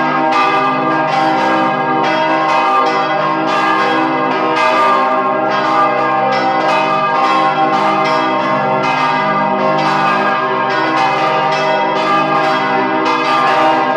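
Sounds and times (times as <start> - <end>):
church bells ringing: 0.0 - 13.9.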